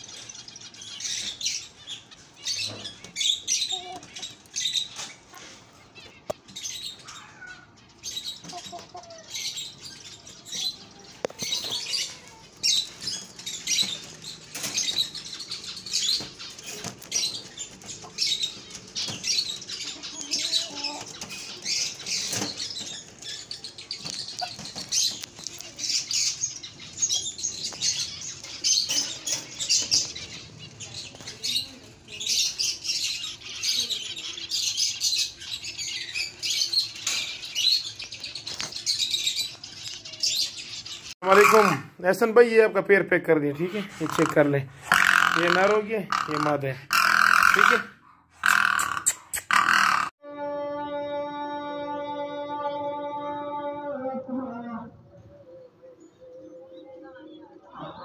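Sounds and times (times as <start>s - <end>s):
birds chirping: 0.0s - 50.2s, 53.9s - 58.0s.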